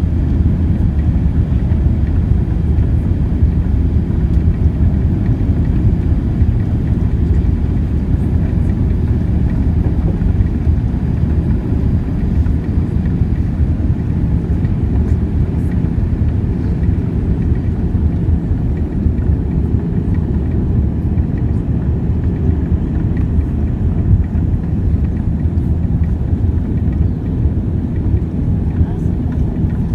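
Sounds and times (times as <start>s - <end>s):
airliner cabin engine rumble: 0.0s - 29.9s.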